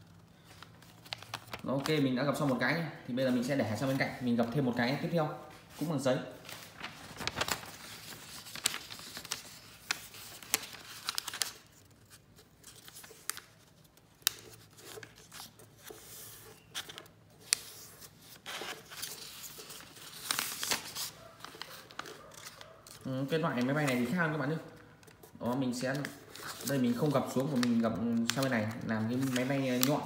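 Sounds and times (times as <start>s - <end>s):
paper crackling as creased: 0.0s - 2.6s, 6.5s - 24.2s, 25.0s - 30.0s
paper rustling and crinkling: 0.0s - 30.0s.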